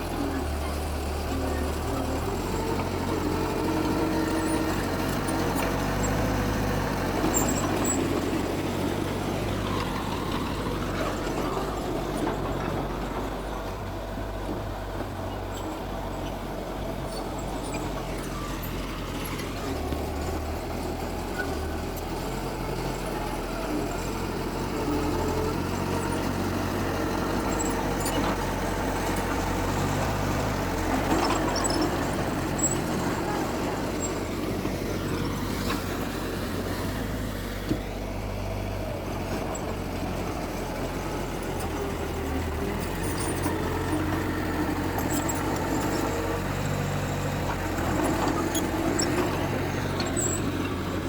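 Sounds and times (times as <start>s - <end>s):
heavy machinery diesel engines: 0.0s - 51.0s.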